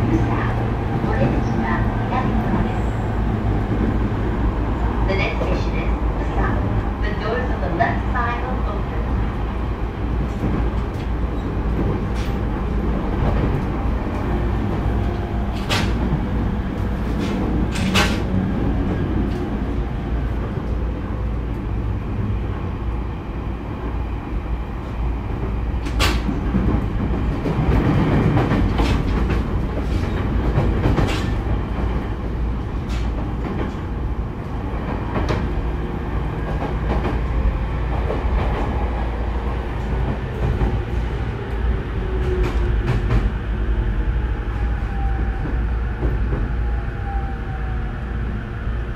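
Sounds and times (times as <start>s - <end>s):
train running rumble: 0.0s - 48.9s.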